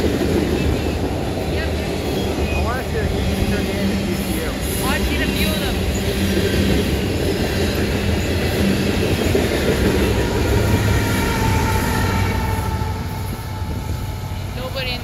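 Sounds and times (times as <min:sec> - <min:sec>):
diesel locomotive passing: 0:00.0 - 0:15.0
steel wheels running on rails: 0:00.0 - 0:15.0.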